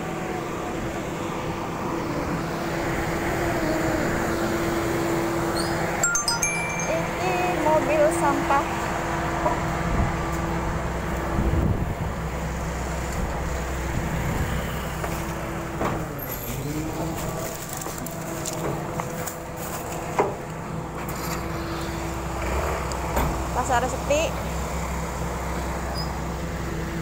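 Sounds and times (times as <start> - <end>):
garbage truck diesel engine: 0.0 - 27.0
street traffic: 0.0 - 27.0.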